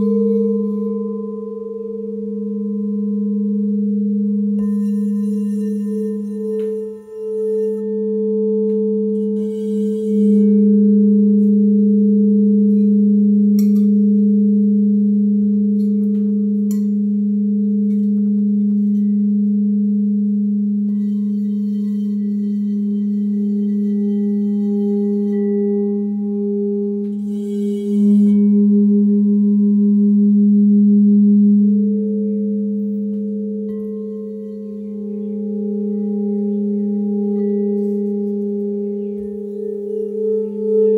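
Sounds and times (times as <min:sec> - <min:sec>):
singing bowl ringing: 0:00.0 - 0:40.9.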